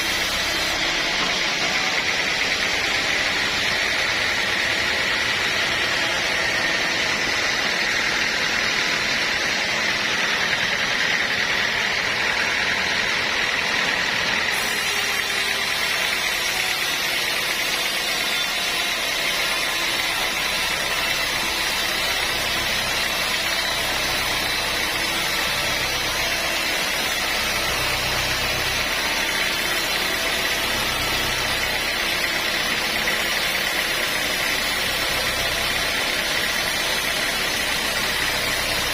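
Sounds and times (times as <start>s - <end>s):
sawmill machinery whining: 0.0s - 38.9s.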